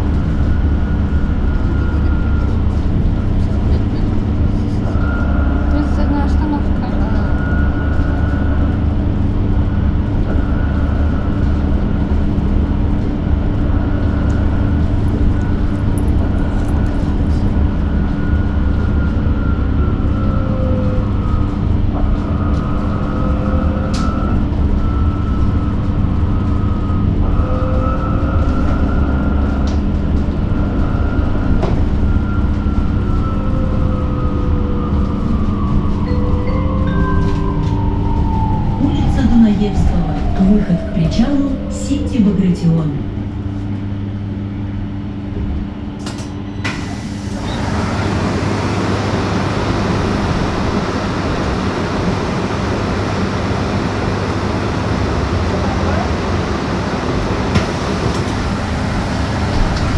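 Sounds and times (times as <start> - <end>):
electric bus low rumble: 0.0 - 59.9.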